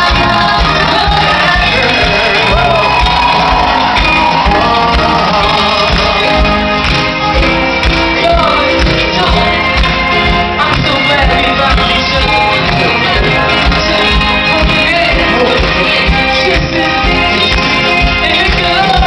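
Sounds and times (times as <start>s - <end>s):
lead vocal singing: 0.0s - 19.0s
live soul band playing: 0.0s - 19.0s.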